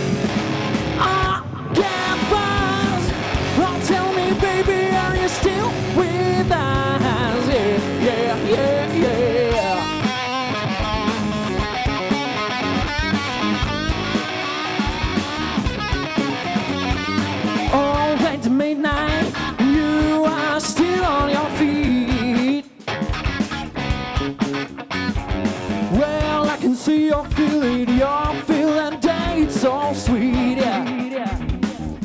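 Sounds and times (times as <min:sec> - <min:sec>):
electric guitar bending notes: 0:00.0 - 0:32.0
funk rock band playing: 0:00.0 - 0:32.0.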